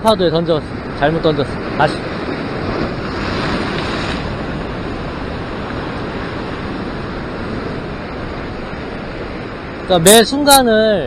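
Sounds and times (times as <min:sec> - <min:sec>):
ocean waves breaking on rocks: 0:00.0 - 0:11.0.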